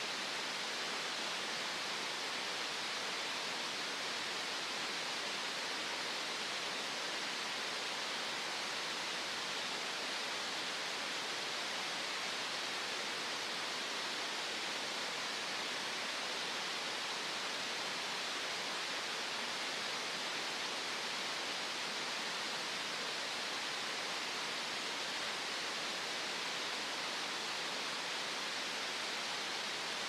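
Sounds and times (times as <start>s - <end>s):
steady green noise hiss: 0.0s - 30.0s.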